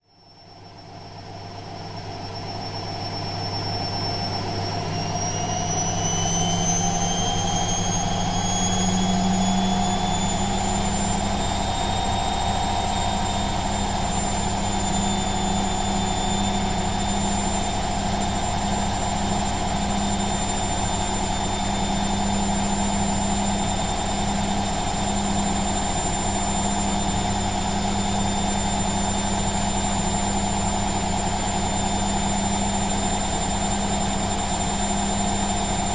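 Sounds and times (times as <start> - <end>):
washing machine spinning: 0.9 - 35.9.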